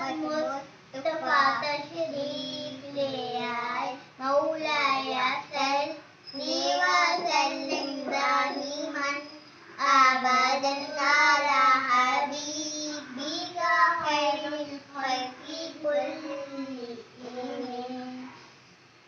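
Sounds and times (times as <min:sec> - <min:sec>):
girls singing devotional song: 0:00.0 - 0:18.4.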